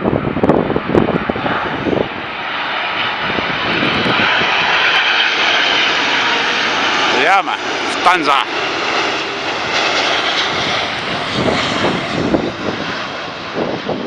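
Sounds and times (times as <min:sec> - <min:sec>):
jet engines passing overhead: 0:00.0 - 0:14.0
wind buffeting microphone: 0:00.0 - 0:14.0.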